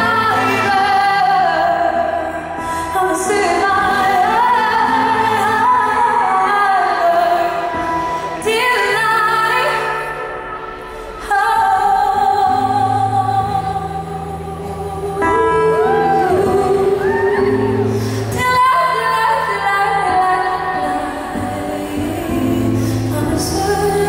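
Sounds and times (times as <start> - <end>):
woman singing with vibrato: 0.0 - 24.0.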